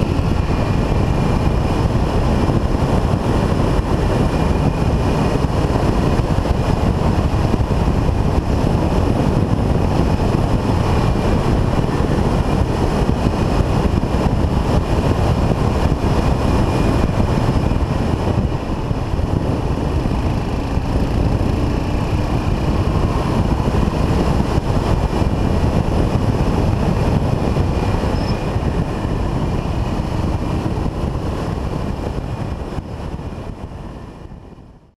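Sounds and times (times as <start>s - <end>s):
motorcycle engine cruising: 0.0s - 34.8s
wind rushing over microphone: 0.0s - 35.0s.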